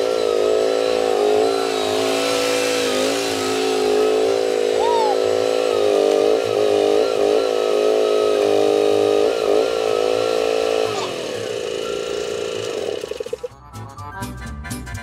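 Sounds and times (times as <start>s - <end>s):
excavator engine under hydraulic load: 0.0s - 13.5s.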